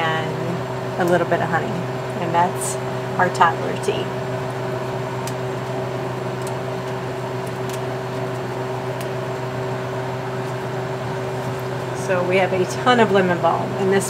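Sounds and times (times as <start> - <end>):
appliance electrical hum: 0.0 - 14.0.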